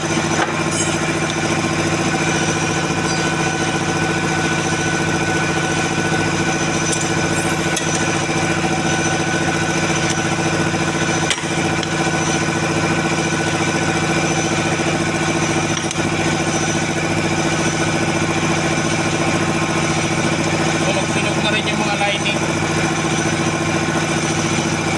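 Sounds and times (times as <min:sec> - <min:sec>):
engine running steadily: 0:00.0 - 0:24.9.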